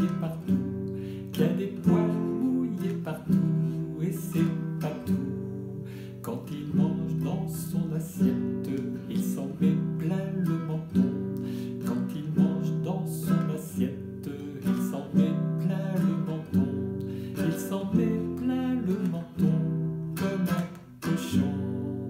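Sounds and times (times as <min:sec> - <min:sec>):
classical guitar strumming chords: 0:00.0 - 0:22.0
man singing: 0:00.0 - 0:22.0.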